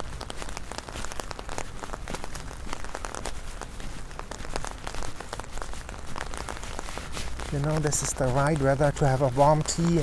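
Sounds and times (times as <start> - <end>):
heavy rain on umbrella: 0.0 - 10.0.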